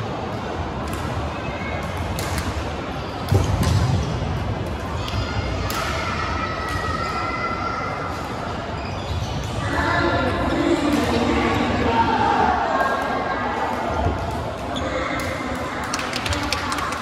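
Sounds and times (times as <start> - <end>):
murmur of hall: 0.0 - 17.0.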